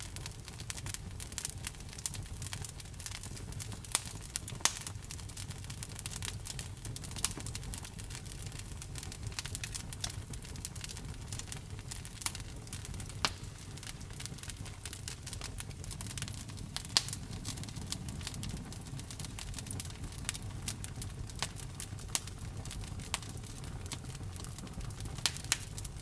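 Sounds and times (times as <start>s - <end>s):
campfire crackling: 0.0s - 26.0s
low rumble of fire: 0.0s - 26.0s.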